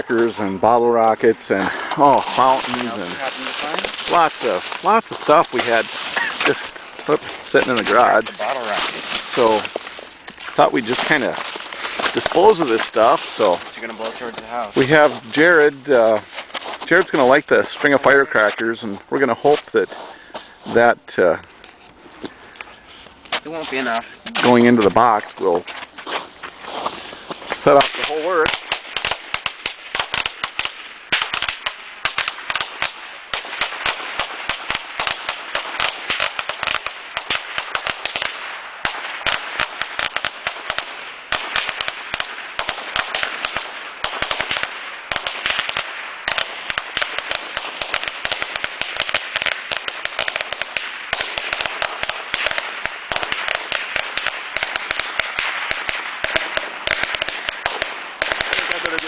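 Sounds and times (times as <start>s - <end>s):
firecrackers rapid sharp bangs: 1.6s - 18.6s, 23.9s - 59.0s.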